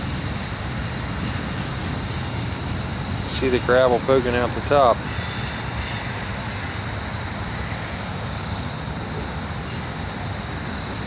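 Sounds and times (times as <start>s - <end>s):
train cars rolling on track: 0.0s - 11.0s.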